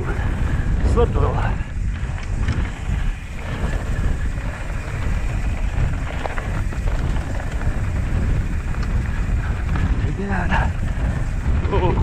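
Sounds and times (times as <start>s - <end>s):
bike rolling on dirt trail: 0.0s - 12.0s
wind rumbling on microphone: 0.0s - 12.0s.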